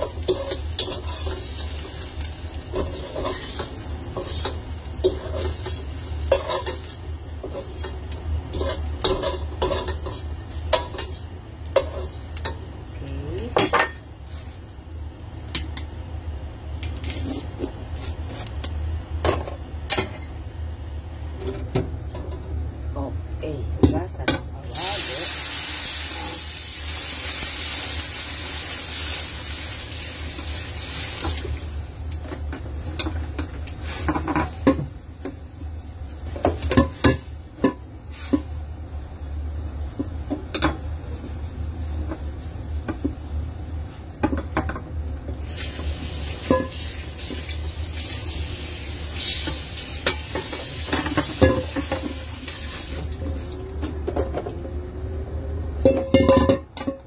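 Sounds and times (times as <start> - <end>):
wok sizzling: 0.0 - 57.0.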